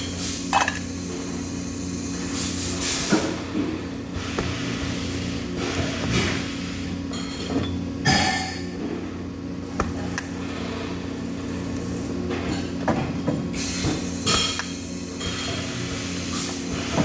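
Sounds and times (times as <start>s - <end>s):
low hum of shop machinery: 0.0s - 17.0s.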